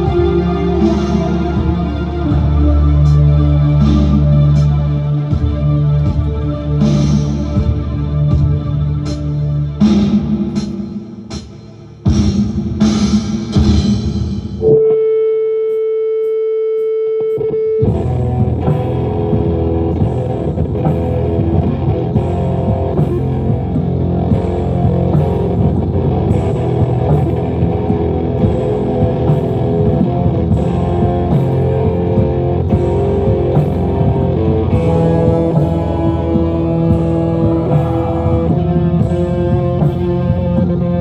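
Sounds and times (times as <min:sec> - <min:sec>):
rock band with distorted guitars: 0:00.0 - 0:11.4, 0:17.3 - 0:41.0.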